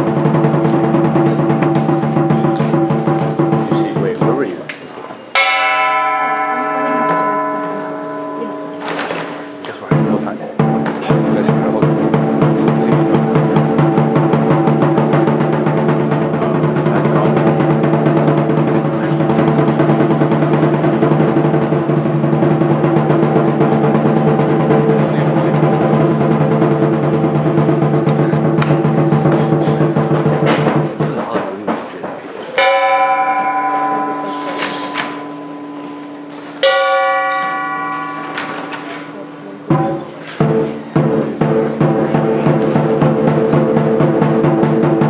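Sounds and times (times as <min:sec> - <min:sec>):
drum cymbals and gong roll: 0:00.0 - 0:04.7, 0:05.4 - 0:31.4, 0:32.6 - 0:45.0
single percussion strikes ringing: 0:05.3 - 0:31.8, 0:32.6 - 0:45.0.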